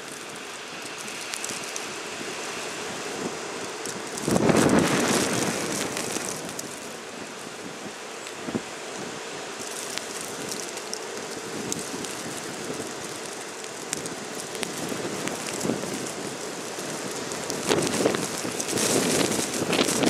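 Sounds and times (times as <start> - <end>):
blizzard wind blowing: 0.0 - 20.0
hiss of wind-driven snow: 0.0 - 20.0.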